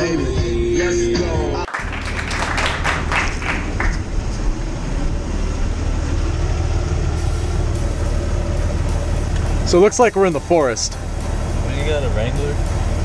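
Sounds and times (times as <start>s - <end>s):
car driving heard from inside: 1.4s - 13.0s.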